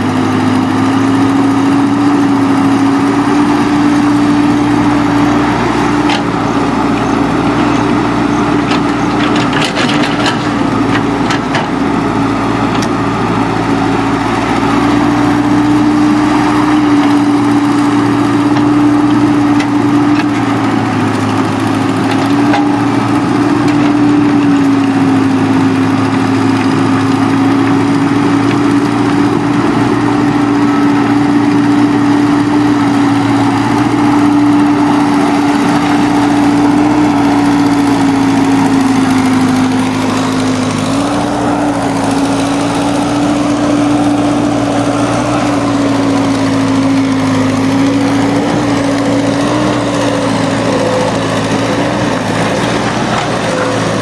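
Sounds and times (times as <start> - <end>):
earth-moving machine engine running: 0.0 - 54.0.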